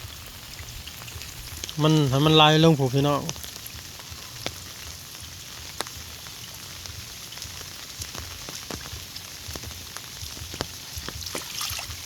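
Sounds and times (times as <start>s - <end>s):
heavy rain falling: 0.0s - 12.0s
sharp raindrop hits: 0.0s - 12.0s.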